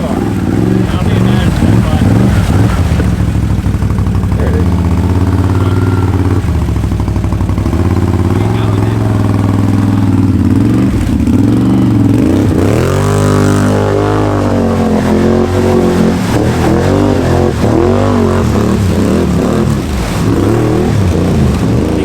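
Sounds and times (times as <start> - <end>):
atv engine revving hard: 0.0 - 22.0.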